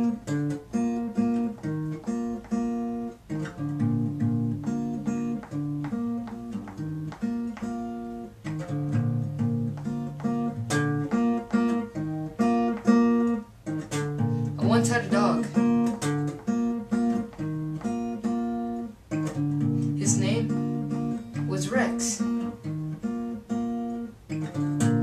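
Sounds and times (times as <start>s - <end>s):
acoustic guitar playing chords: 0.0s - 25.0s.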